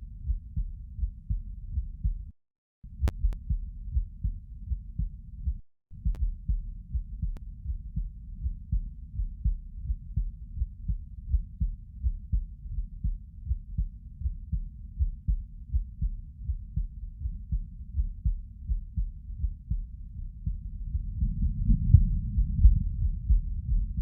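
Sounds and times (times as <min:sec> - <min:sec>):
human heartbeat: 0:00.0 - 0:02.3, 0:02.9 - 0:24.0.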